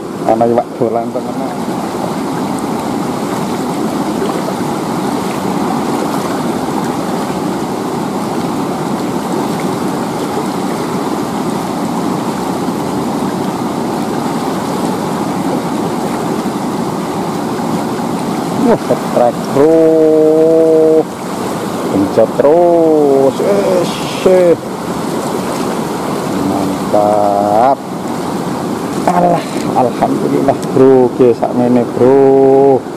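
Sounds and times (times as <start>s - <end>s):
river rushing over rocks: 0.0s - 32.9s.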